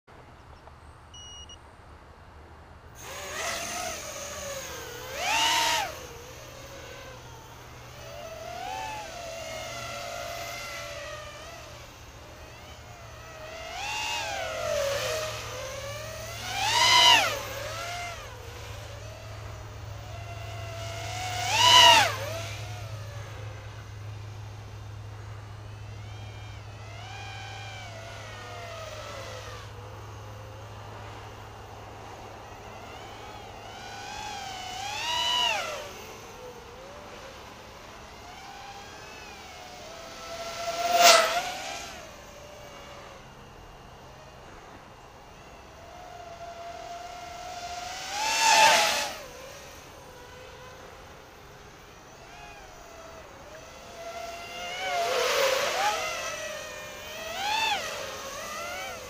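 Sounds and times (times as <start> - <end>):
drone motors whining: 0.2 - 1.6, 3.0 - 59.0
high drone motor screams: 3.0 - 24.2, 25.1 - 59.0.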